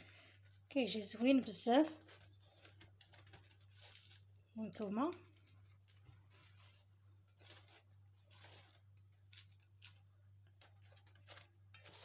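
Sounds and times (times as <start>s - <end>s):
fried dough crackling and crunching: 0.0s - 12.0s.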